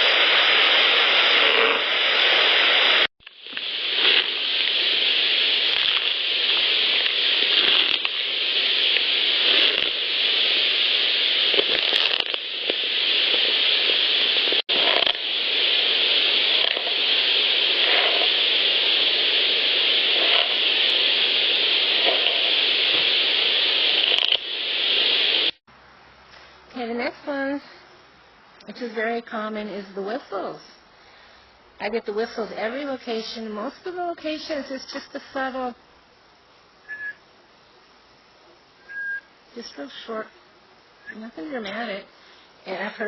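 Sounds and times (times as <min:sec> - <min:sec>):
loud steady hiss: 0:00.0 - 0:43.0.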